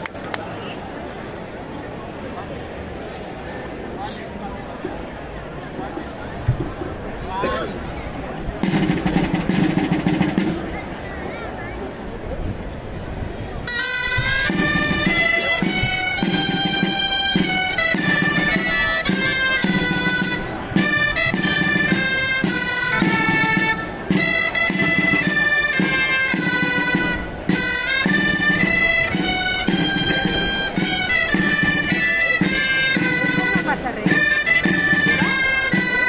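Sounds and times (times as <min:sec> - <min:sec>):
reed instruments playing folk melody: 0:05.5 - 0:12.0, 0:13.4 - 0:36.0.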